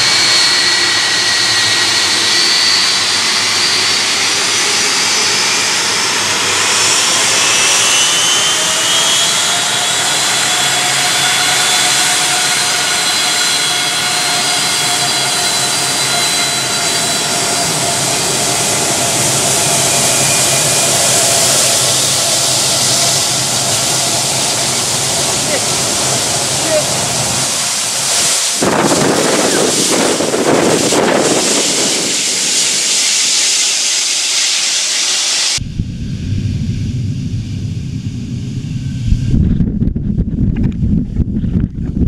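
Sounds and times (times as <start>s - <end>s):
jet engines rumbling and whining: 0.0s - 42.0s.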